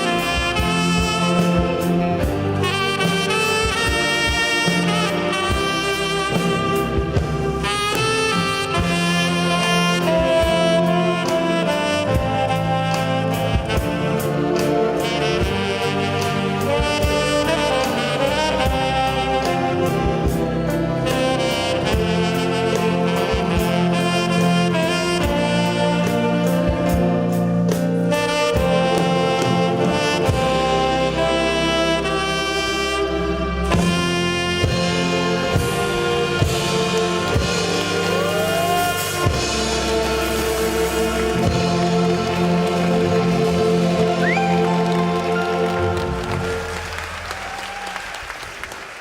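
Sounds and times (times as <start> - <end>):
drum beats: 0.0 - 31.4, 33.6 - 49.0
tenor saxophone melody: 0.0 - 47.6
saxophone ensemble playing: 0.0 - 48.8.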